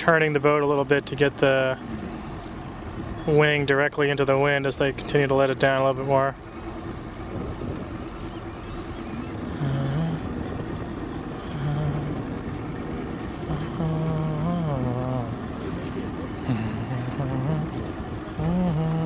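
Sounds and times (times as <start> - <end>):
background rumble: 0.0 - 19.0
motorboat engine humming: 0.0 - 19.0.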